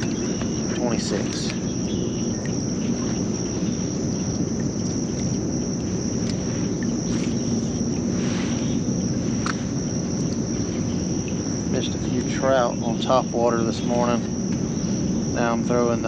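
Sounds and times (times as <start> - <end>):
insects droning: 0.0 - 16.0
low rumble: 0.0 - 16.0.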